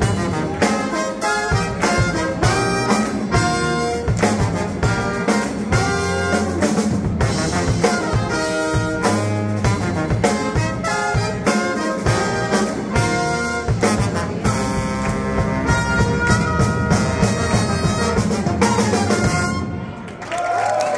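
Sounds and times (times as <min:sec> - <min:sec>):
drum kit beat: 0:00.0 - 0:19.7
brass band playing: 0:00.0 - 0:20.3.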